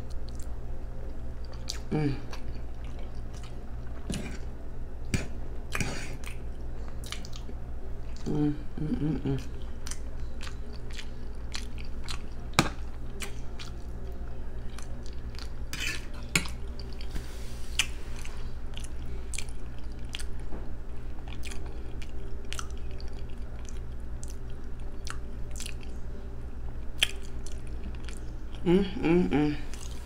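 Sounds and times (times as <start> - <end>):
person chewing: 0.0 - 20.5, 21.1 - 26.0, 26.8 - 30.0
low hum: 0.0 - 30.0.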